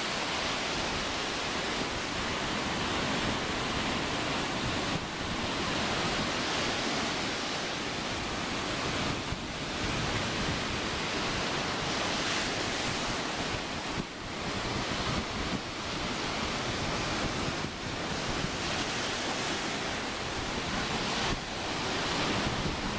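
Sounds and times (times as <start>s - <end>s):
ocean surf breaking: 0.0s - 22.9s
wind rumbling on microphone: 0.0s - 22.9s.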